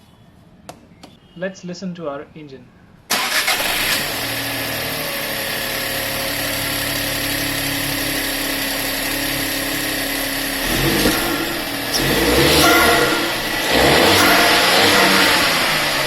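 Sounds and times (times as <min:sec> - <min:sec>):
car engine idling and revving: 0:03.1 - 0:16.0.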